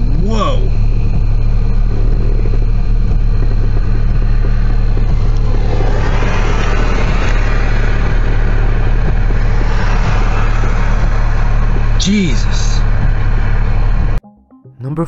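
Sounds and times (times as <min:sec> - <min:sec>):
loud low hum: 0:00.0 - 0:14.2
rushing noise: 0:00.0 - 0:14.2.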